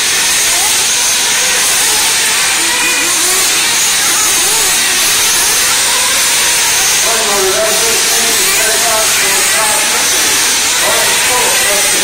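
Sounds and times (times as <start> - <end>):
rc car motor whine: 0.0 - 12.0
steady loud hiss: 0.0 - 12.0.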